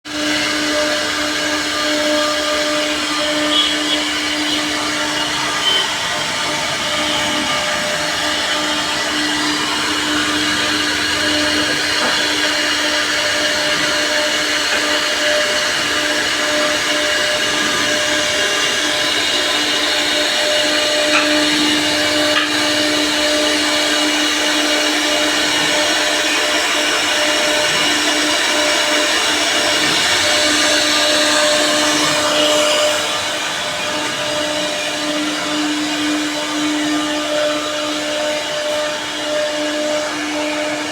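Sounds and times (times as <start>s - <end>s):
router spindle whine: 0.1s - 40.9s.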